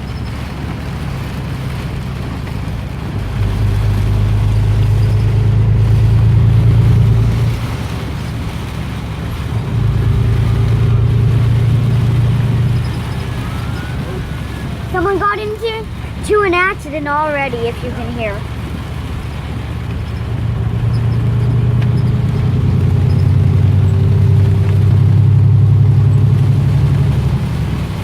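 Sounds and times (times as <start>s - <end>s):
vehicle engine drone: 0.0s - 28.0s.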